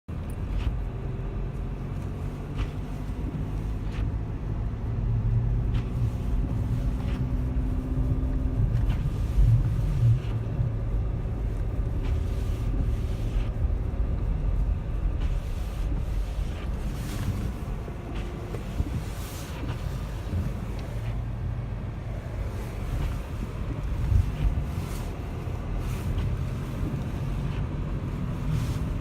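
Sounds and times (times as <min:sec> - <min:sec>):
engine rumbling: 0:00.1 - 0:29.0.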